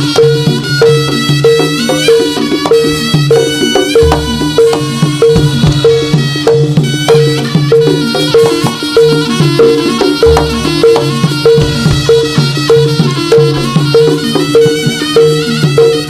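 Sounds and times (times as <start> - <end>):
drums: 0.0 - 16.0
pitched percussion pattern: 0.0 - 16.0.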